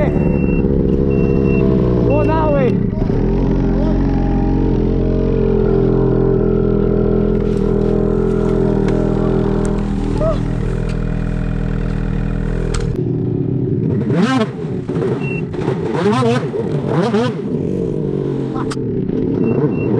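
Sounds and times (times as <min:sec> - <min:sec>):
snowmobile engine running: 0:00.0 - 0:19.9.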